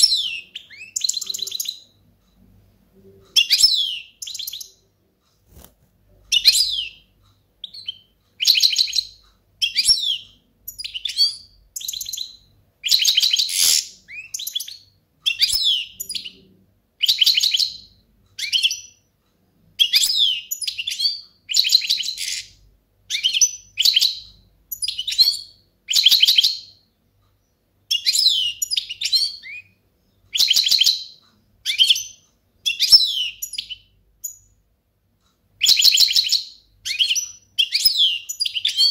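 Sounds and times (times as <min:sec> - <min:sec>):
bird twittering song: 0:00.0 - 0:02.4, 0:03.3 - 0:04.8, 0:06.3 - 0:19.1, 0:19.8 - 0:34.6, 0:35.6 - 0:38.9.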